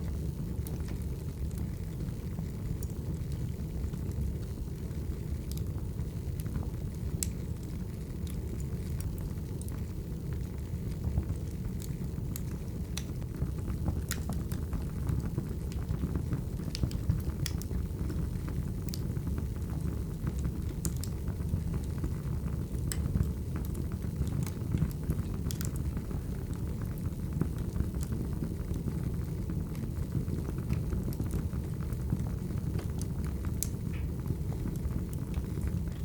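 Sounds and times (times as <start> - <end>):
burning logs crackling and popping: 0.0 - 36.0
low rumble of flames: 0.0 - 36.0.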